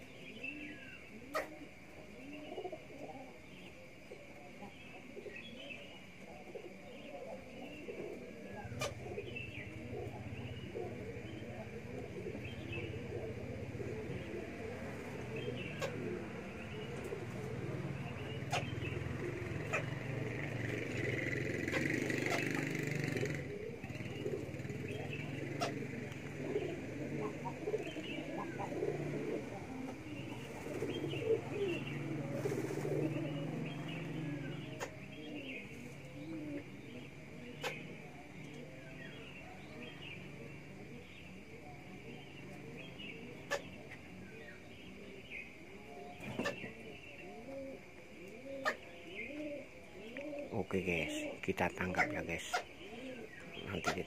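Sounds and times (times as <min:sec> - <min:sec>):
low steady hum: 0:00.0 - 0:21.6, 0:23.3 - 0:53.8
pigeons cooing: 0:00.0 - 0:54.0.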